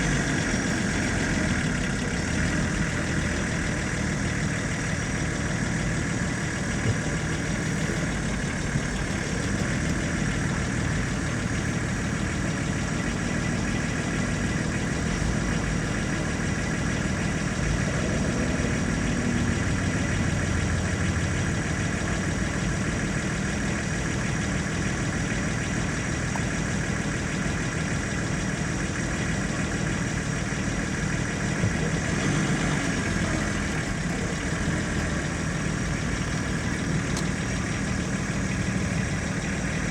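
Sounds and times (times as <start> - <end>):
car engine running at low revs: 0.0 - 39.9.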